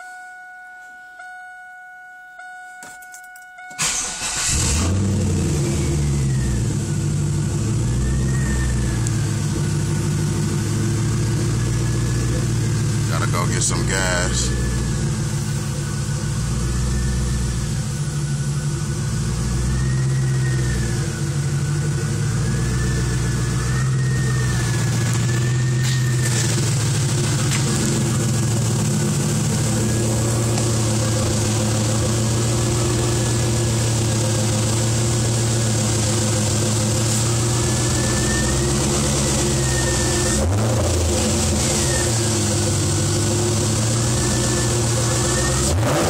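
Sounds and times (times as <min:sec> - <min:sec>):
car engine idling: 0:03.8 - 0:46.0.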